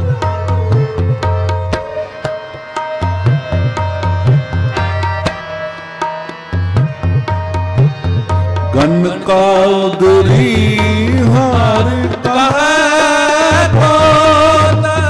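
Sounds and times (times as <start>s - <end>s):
fast tabla rhythm: 0.0s - 15.0s
harmonium melody: 0.0s - 15.0s.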